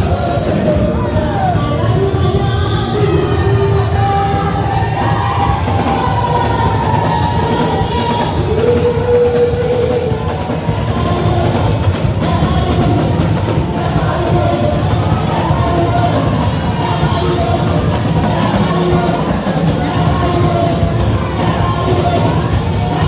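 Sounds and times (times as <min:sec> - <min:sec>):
drum kit: 0:00.0 - 0:23.0
guitar: 0:00.0 - 0:23.0
singing over a band: 0:00.0 - 0:23.0.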